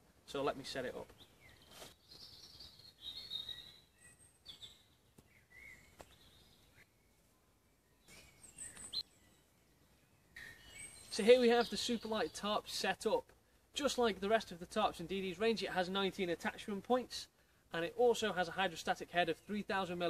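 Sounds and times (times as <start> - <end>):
faint birdsong chirps: 0.0 - 20.0.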